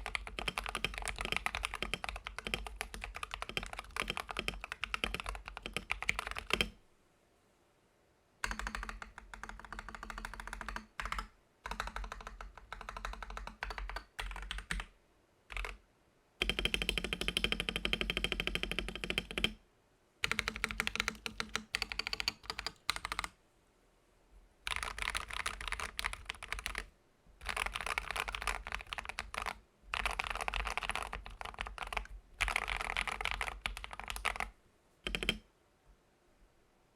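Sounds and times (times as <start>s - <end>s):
mechanical keyboard keystrokes: 0.0s - 6.8s, 8.4s - 14.9s, 15.5s - 15.8s, 16.4s - 19.6s, 20.2s - 23.3s, 24.7s - 35.4s.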